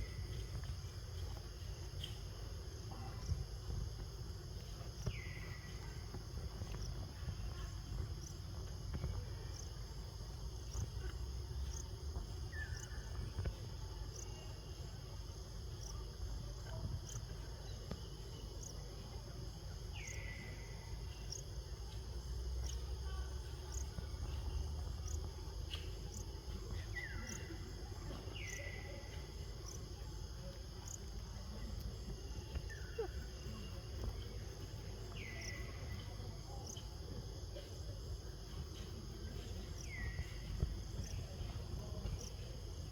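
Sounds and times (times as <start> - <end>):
high-pitched insect chorus: 0.0 - 42.9.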